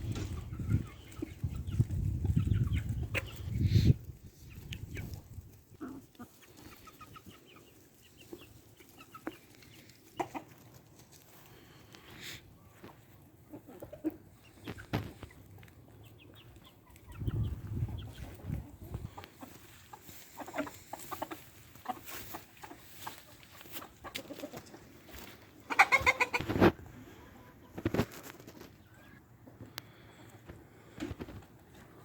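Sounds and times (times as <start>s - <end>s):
chickens clucking: 0.0s - 32.0s
chickens squawking: 0.0s - 32.0s.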